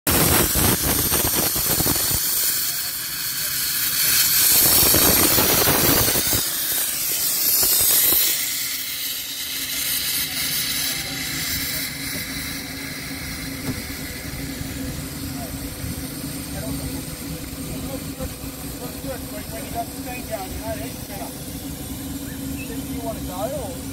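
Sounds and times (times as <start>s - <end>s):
steam locomotive hissing: 0.1s - 23.9s.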